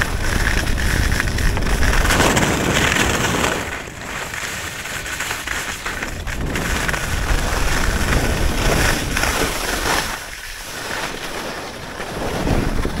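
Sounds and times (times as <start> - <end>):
wind buffeting microphone: 0.0 - 10.5, 11.5 - 13.0
skis scraping over snow: 0.0 - 13.0.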